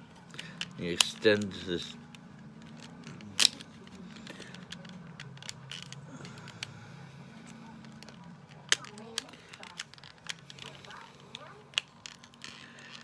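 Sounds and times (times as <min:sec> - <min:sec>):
low steady hum: 0:00.0 - 0:13.0
plastic toy parts clicking: 0:00.0 - 0:13.0.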